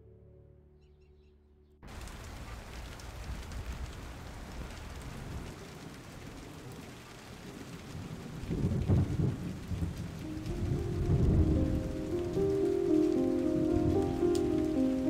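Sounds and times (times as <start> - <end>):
rain falling: 1.8 - 15.0
wind rumbling on microphone: 1.9 - 15.0.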